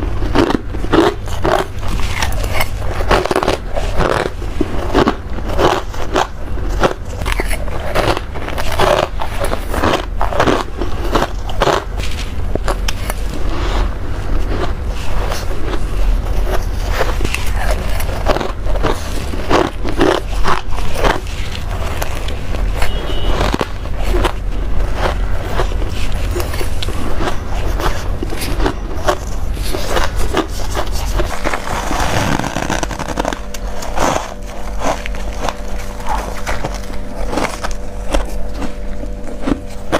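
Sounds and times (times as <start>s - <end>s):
chewing crunchy frost: 0.0s - 39.9s
low steady hum: 0.0s - 39.9s.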